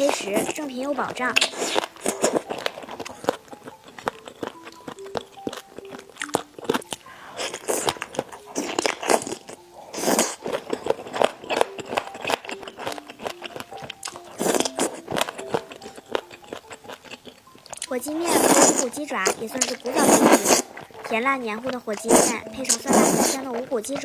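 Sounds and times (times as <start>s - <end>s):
biting and crunchy chewing: 0.0s - 24.0s
faint background music: 0.0s - 24.0s.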